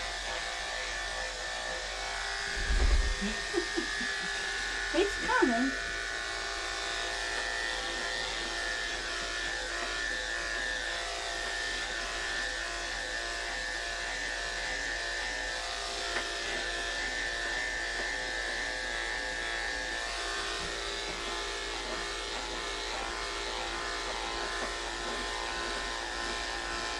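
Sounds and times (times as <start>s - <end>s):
electric clippers buzzing: 0.0s - 26.9s.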